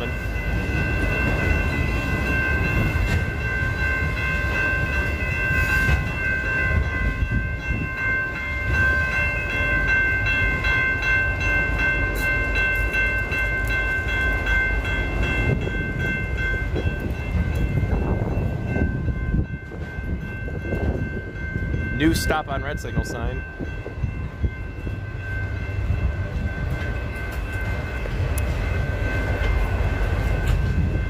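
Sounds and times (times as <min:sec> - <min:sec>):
crossing bell ringing: 0:00.0 - 0:31.0
freight train rumbling: 0:00.0 - 0:31.0.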